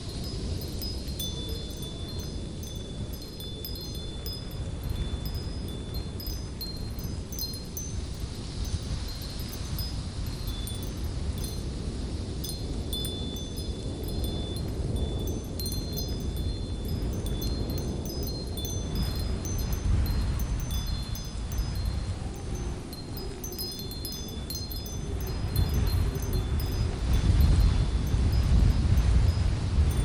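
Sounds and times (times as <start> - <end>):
high tinkling notes: 0.0 - 30.0
wind blowing with low rumble: 0.0 - 30.0.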